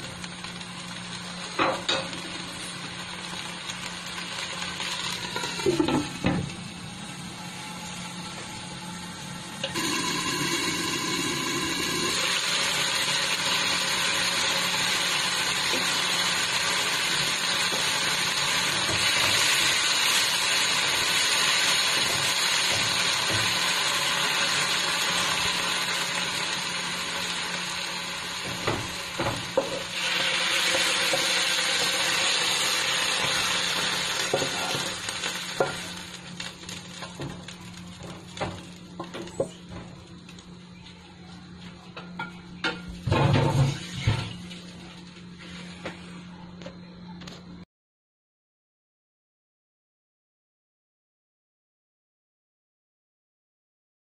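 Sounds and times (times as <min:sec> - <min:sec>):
vegetables sizzling in a wok: 0:00.0 - 0:40.8, 0:42.0 - 0:46.1.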